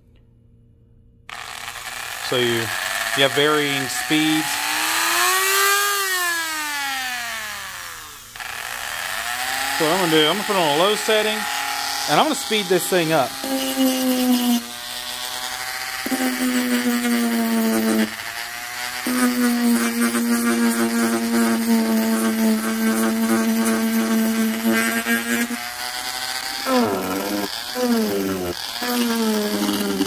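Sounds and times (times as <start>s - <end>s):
rotary tool sanding whine: 1.3s - 30.0s.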